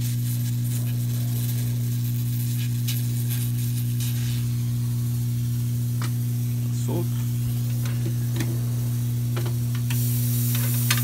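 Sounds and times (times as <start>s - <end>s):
faint sizzling crackles: 0.0s - 11.0s
hot-air blower humming: 0.0s - 11.0s.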